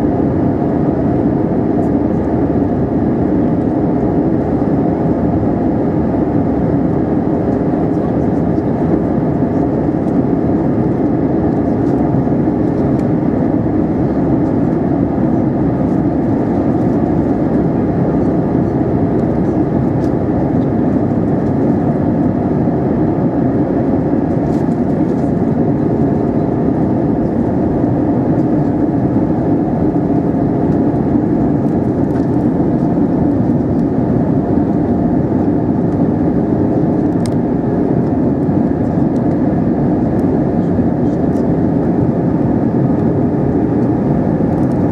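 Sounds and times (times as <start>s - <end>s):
aircraft cabin airflow and engines: 0.0s - 44.9s.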